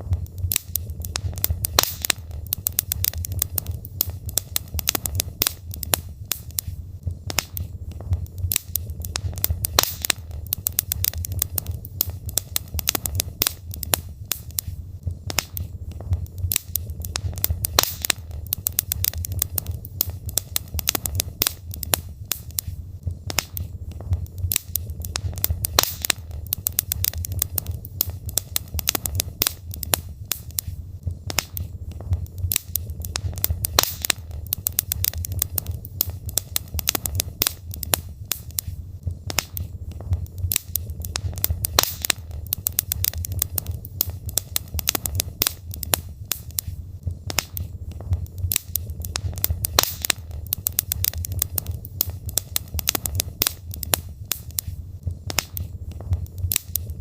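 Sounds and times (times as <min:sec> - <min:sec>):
logs crackling in fireplace: 0:00.0 - 0:57.0
low rumble of fire: 0:00.0 - 0:57.0.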